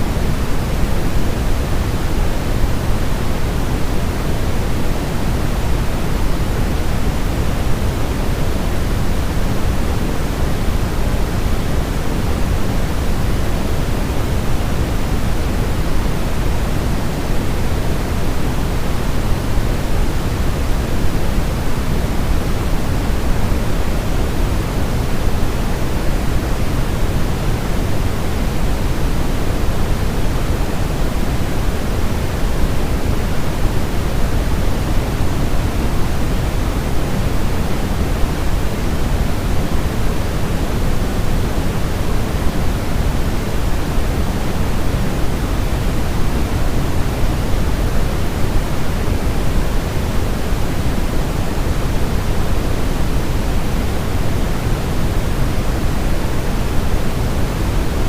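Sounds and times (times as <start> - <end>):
low white noise hiss: 0.0 - 58.0.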